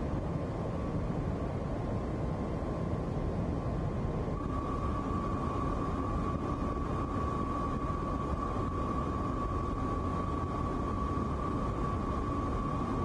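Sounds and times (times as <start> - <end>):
aircraft engine and airflow drone: 0.0 - 13.0
thin steady whine: 0.0 - 13.0.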